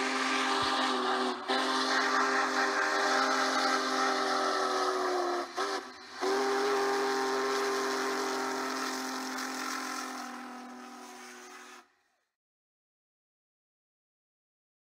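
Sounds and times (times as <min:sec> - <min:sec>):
steam whistle blasts: 0:00.0 - 0:12.0.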